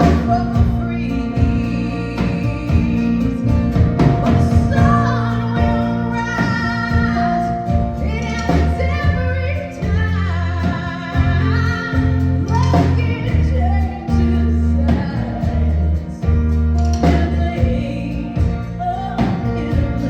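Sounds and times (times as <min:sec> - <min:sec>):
live band playing: 0:00.0 - 0:20.0
person singing lead vocal: 0:00.0 - 0:20.0.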